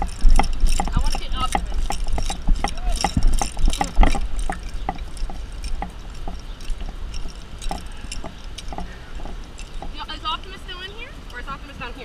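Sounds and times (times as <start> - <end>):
footsteps on pavement: 0.0 - 12.0
wind rumbling on microphone: 0.0 - 12.0.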